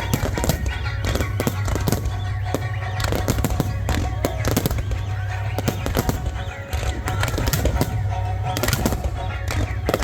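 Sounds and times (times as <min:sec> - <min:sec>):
fireworks bangs and crackles: 0:00.0 - 0:10.0
music playing: 0:00.0 - 0:10.0.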